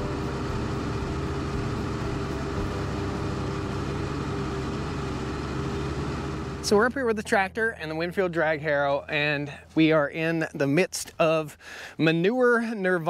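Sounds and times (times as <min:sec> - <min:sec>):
tractor diesel engine droning: 0:00.0 - 0:12.6.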